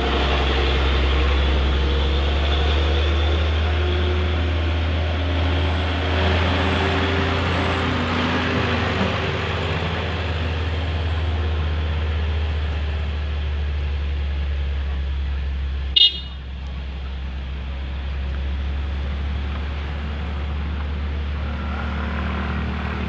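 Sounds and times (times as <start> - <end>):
road traffic engine rumble: 0.0 - 23.0.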